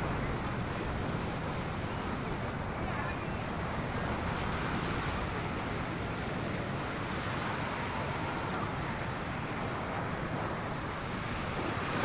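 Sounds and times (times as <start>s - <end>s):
small waves washing onto sand: 0.0s - 12.0s
wind rumble on microphone: 0.0s - 12.0s.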